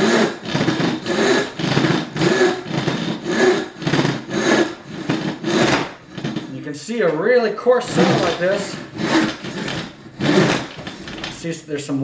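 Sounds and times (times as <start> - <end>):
hand saw rasping through wood: 0.0 - 6.6, 7.8 - 11.5.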